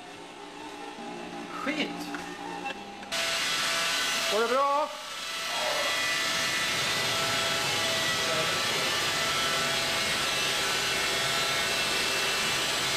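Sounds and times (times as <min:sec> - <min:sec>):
machinery hissing with high whine: 0:00.0 - 0:12.9.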